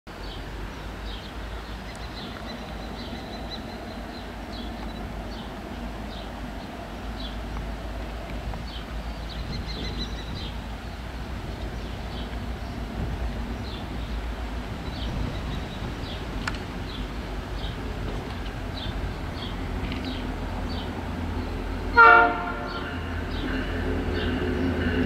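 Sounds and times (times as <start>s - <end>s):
diesel locomotive engine rumble: 0.1s - 25.0s
birds chirping: 0.2s - 25.0s.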